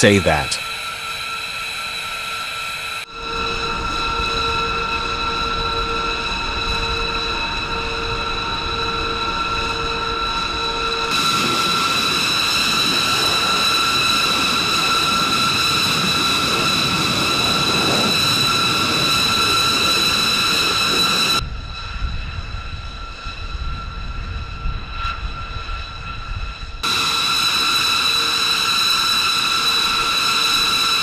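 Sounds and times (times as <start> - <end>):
jet turbine whine: 0.0 - 31.0.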